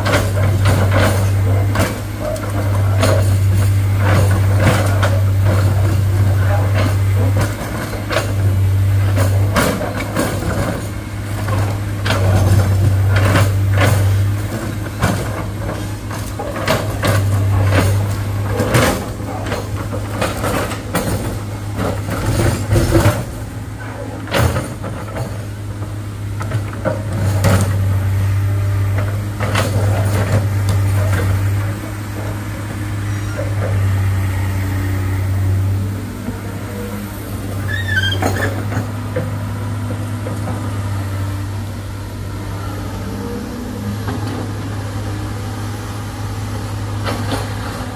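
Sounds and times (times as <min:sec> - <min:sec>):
heavy diesel engine humming: 0:00.0 - 0:47.9.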